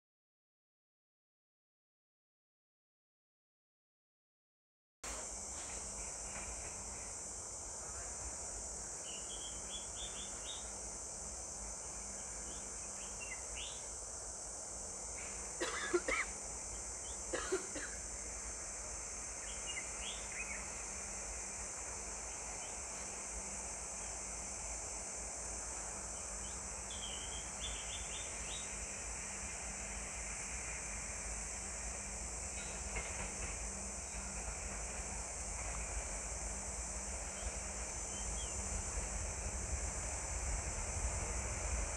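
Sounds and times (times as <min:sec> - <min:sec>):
steady high-pitched hiss: 0:05.1 - 0:41.9.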